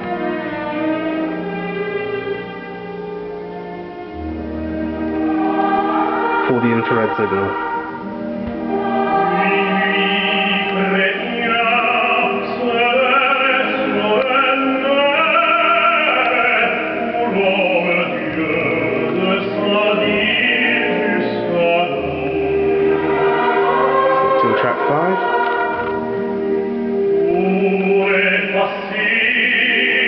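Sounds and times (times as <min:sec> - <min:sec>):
operatic singing over instruments: 0:03.8 - 0:30.0.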